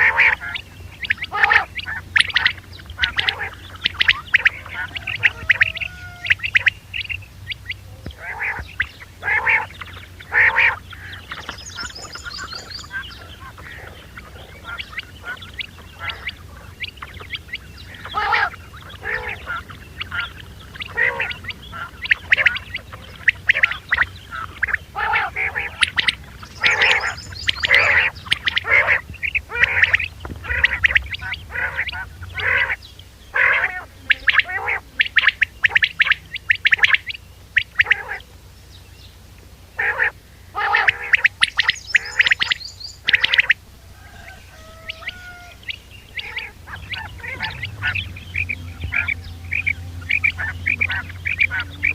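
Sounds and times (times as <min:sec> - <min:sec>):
quail calling: 0:00.0 - 0:38.4, 0:39.7 - 0:51.9
steady low hum: 0:00.0 - 0:51.9.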